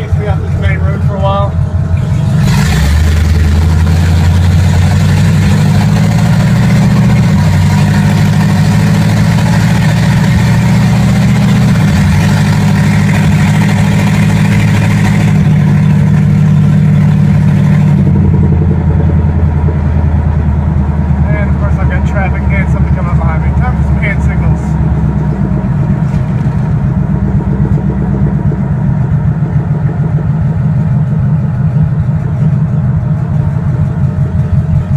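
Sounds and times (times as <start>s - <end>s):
loud truck engine revving: 0.0s - 34.9s.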